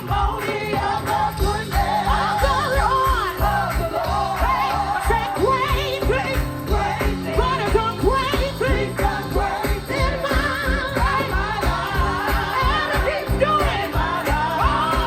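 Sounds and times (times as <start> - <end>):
gospel singers with band: 0.0 - 15.0.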